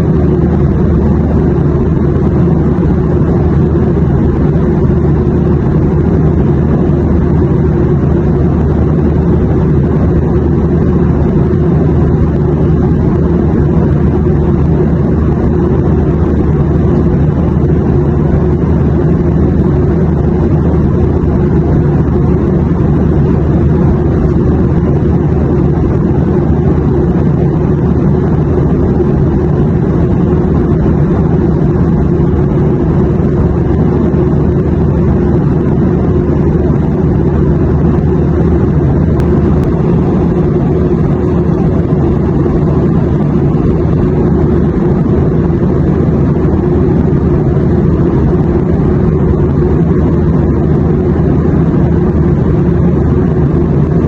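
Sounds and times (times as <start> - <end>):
airplane drone: 0.0 - 54.0.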